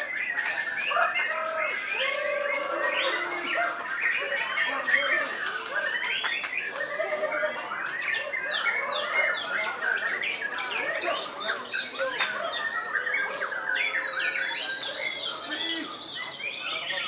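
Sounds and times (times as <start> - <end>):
songbirds singing and calling: 0.0 - 17.0.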